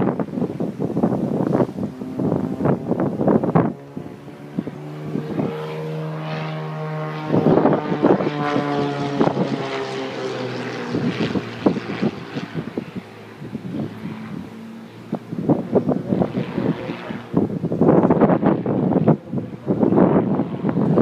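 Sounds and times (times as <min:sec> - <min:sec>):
propeller aircraft engine drone: 0:00.0 - 0:21.0
wind buffeting microphone: 0:00.0 - 0:21.0.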